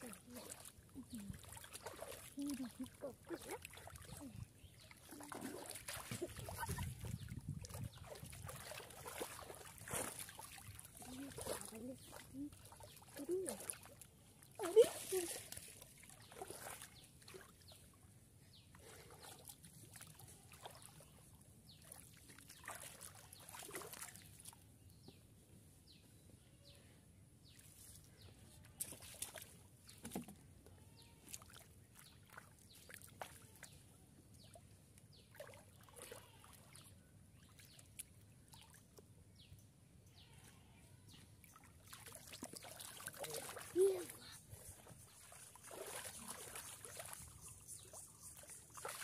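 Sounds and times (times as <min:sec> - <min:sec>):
splashing in shallow muddy water: 0:00.0 - 0:25.2, 0:27.4 - 0:39.4, 0:40.2 - 0:49.0.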